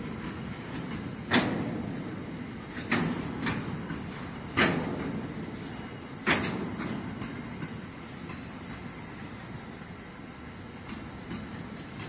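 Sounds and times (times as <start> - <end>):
freight train wheels rumbling: 0.0 - 12.0
wheels clunking on track: 0.0 - 12.0.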